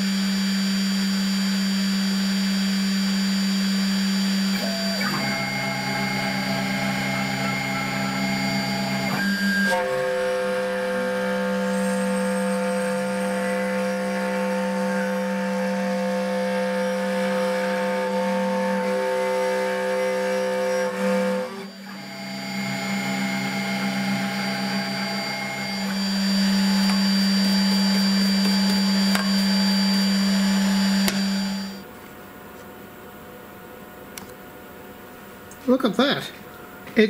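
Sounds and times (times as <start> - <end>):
router spindle whining: 0.0 - 31.9.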